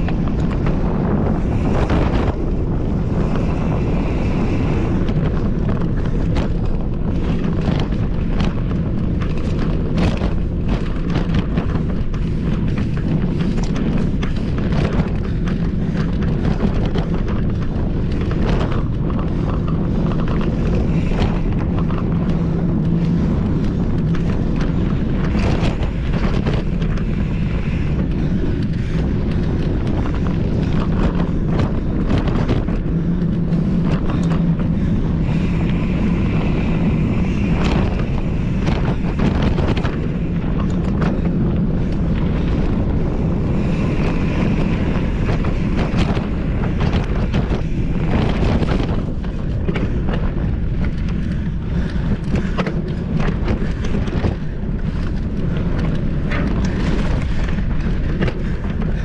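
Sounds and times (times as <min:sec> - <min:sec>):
bike rattling over rough ground: 0:00.0 - 0:59.0
wind rush on microphone: 0:00.0 - 0:59.0.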